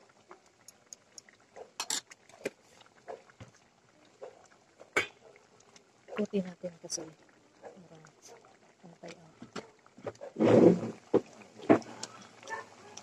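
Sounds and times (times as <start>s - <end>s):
stew bubbling in a pot: 0.0s - 13.0s.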